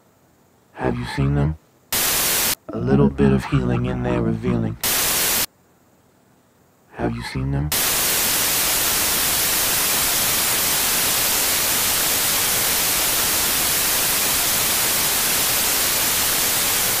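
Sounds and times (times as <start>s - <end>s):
white noise static hiss: 0.0s - 17.0s.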